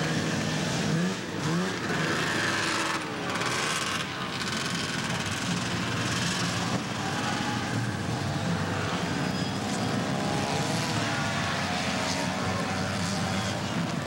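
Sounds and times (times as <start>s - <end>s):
snowmobile engines running: 0.0s - 14.0s.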